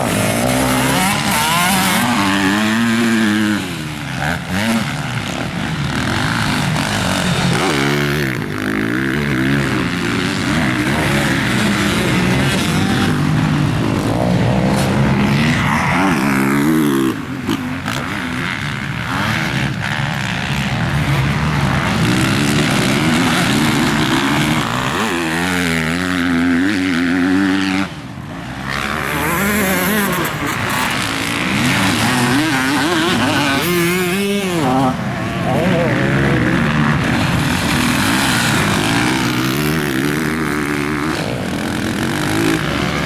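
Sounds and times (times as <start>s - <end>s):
motocross bike engine revving: 0.0s - 43.0s.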